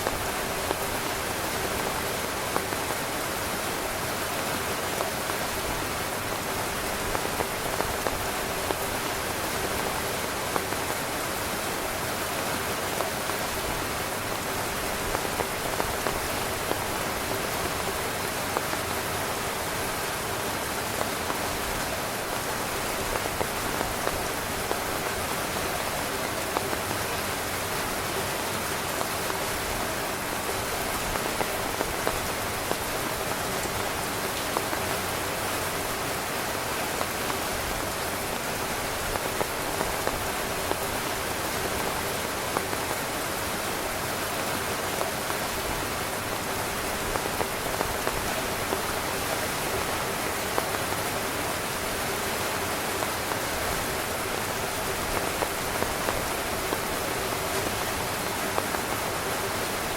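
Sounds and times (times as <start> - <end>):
rain on a tent: 0.0 - 59.9.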